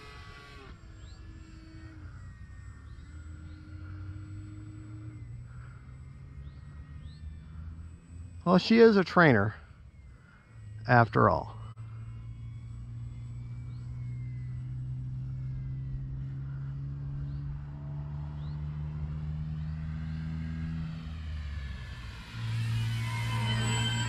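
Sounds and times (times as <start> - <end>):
model airplane motor droning: 0.0 - 24.0.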